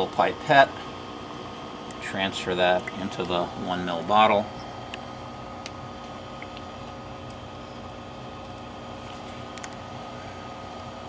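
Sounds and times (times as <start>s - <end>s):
machine hum: 0.0s - 11.0s
faint whining tones: 0.7s - 11.0s.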